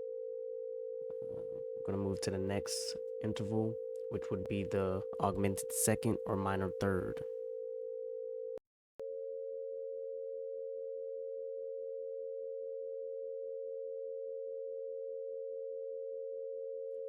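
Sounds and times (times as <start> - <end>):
two steady sine tones: 0.0 - 17.0.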